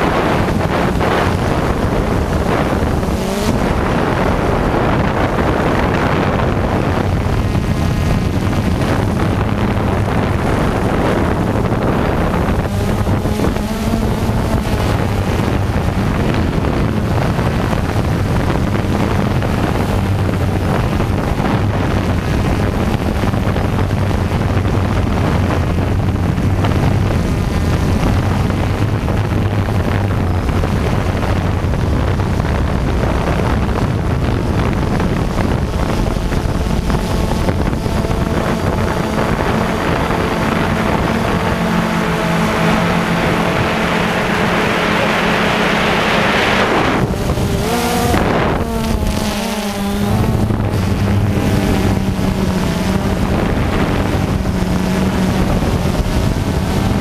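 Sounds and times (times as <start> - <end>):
drone motors humming: 0.0 - 57.0
high motor whine: 0.0 - 57.0
wind buffeting microphone: 0.0 - 57.0.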